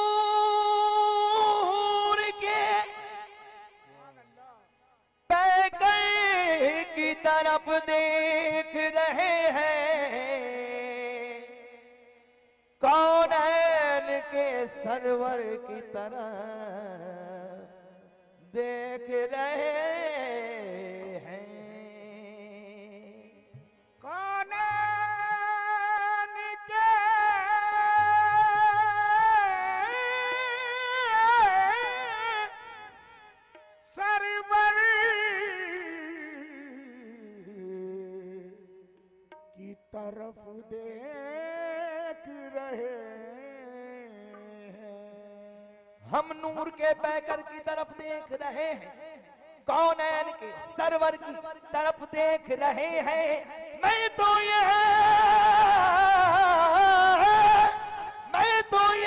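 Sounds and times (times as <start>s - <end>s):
harmonium: 0.0s - 59.0s
person singing ornamented notes: 0.0s - 59.0s.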